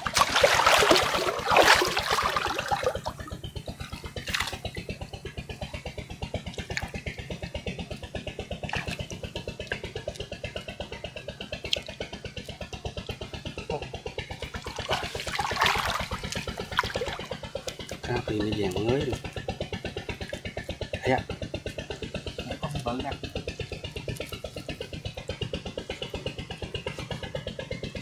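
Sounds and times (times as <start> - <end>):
small engine putting: 0.0 - 28.0.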